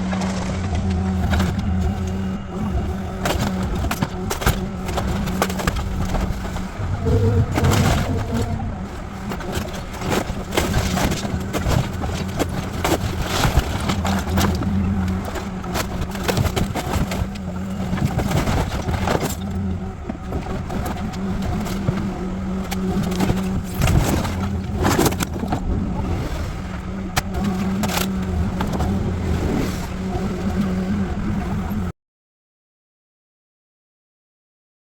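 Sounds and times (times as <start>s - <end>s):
debris cracking and scraping: 0.0s - 31.9s
machinery engine running: 0.0s - 31.9s.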